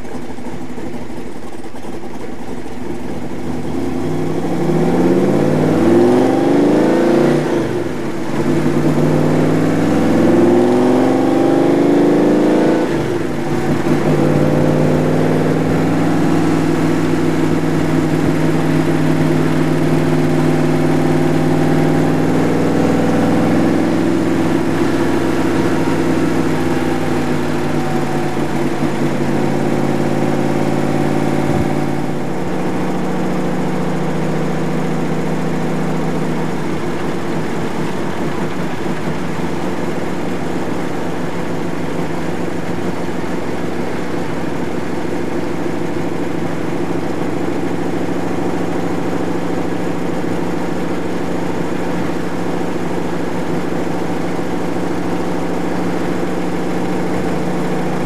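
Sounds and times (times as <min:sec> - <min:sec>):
car engine accelerating through gears: 0:02.8 - 0:58.0.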